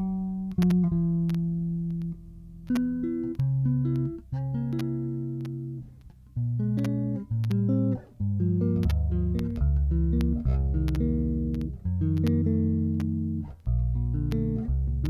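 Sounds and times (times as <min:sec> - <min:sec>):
electric bass plucked notes: 0:00.0 - 0:15.0.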